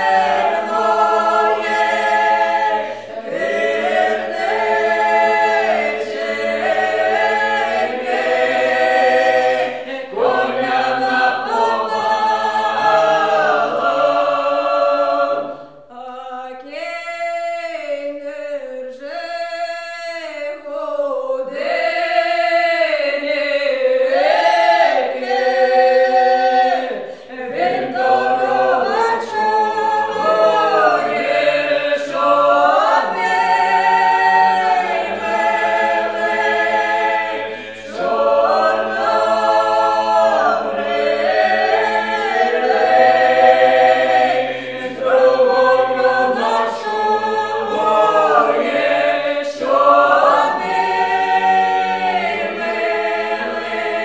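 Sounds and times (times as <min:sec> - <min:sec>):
mixed choir singing a cappella: 0:00.0 - 0:54.0.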